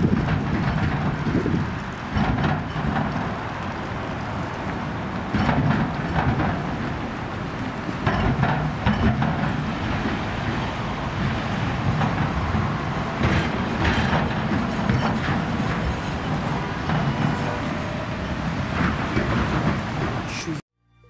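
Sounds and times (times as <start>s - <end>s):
diesel locomotive engines: 0.0s - 20.6s
wheel and track noise: 0.0s - 20.6s.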